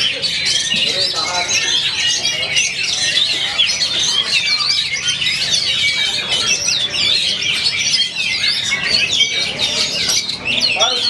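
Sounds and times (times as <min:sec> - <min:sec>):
chorus of songbirds singing: 0:00.0 - 0:11.0.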